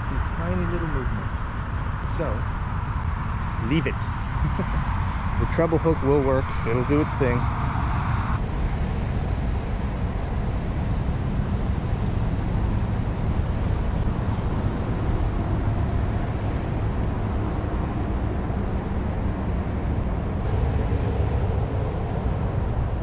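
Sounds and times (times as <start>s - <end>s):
low rumble of road traffic: 0.0s - 23.0s.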